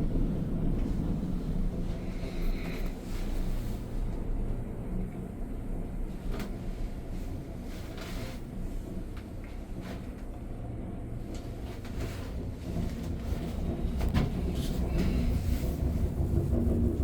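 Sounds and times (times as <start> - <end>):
gondola cabin rumble: 0.0 - 17.0.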